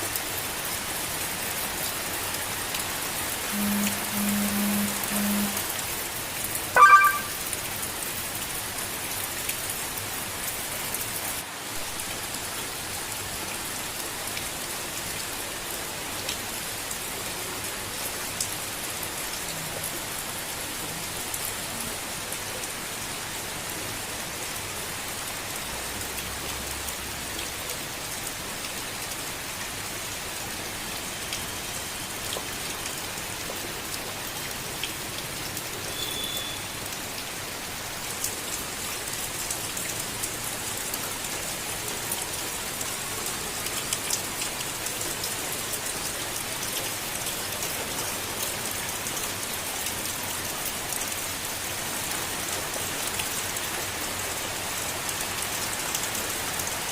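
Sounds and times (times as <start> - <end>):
gentle rain falling: 0.0 - 56.9.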